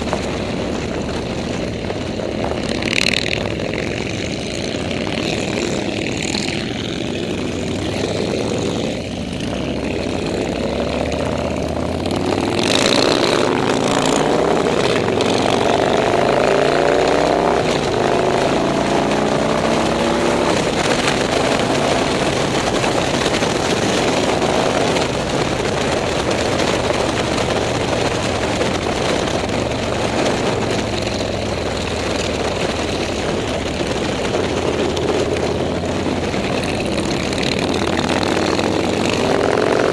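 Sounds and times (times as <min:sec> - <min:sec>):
motorcycle engines revving and passing: 0:00.0 - 0:39.9.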